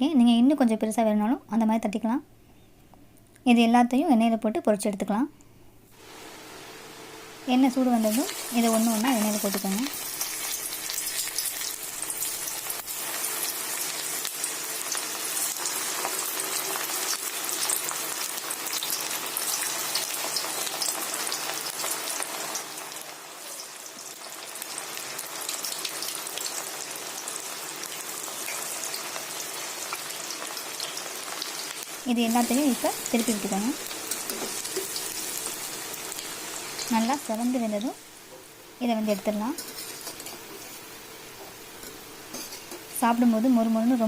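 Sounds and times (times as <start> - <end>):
food deep-frying in oil: 5.9 - 44.0.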